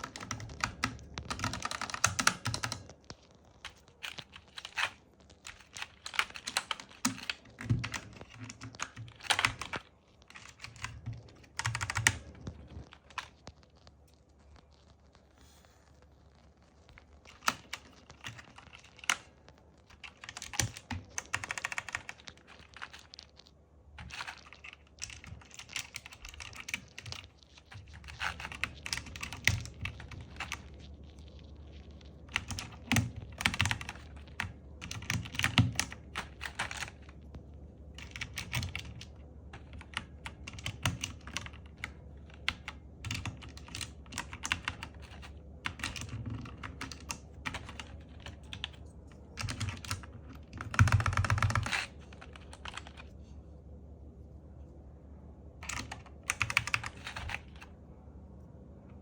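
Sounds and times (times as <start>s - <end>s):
mechanical keyboard typing: 0.0s - 13.6s, 17.2s - 37.2s, 37.9s - 48.8s, 49.4s - 53.1s, 55.6s - 57.7s.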